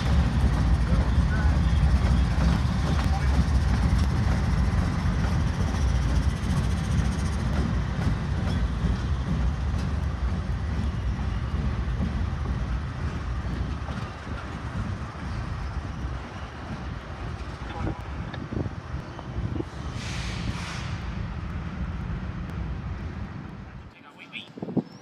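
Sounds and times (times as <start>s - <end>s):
diesel locomotives passing: 0.0s - 25.0s.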